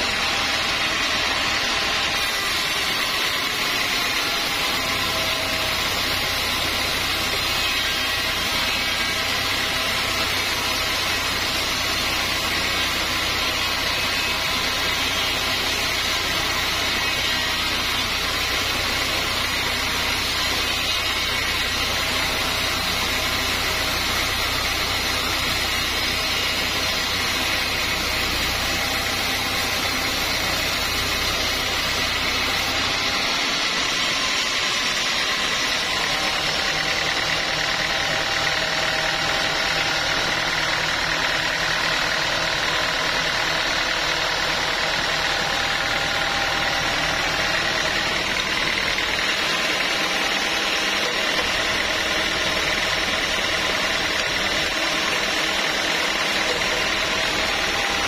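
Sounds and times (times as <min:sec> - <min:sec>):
machine hum with high whine: 0:00.0 - 0:58.0
sawmill machinery deep rumble: 0:00.0 - 0:58.0.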